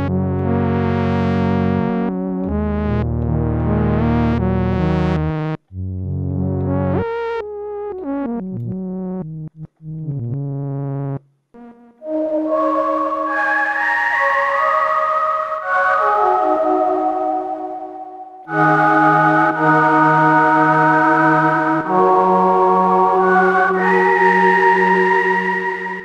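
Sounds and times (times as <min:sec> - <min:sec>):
synthesizer notes with pitch glides: 0:00.0 - 0:26.0
synthesizer pad chords: 0:00.0 - 0:26.0.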